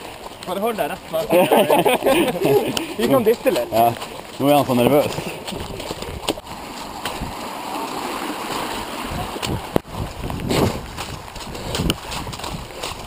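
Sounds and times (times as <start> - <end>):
wind buffeting microphone: 1.4 - 7.5, 8.6 - 13.0.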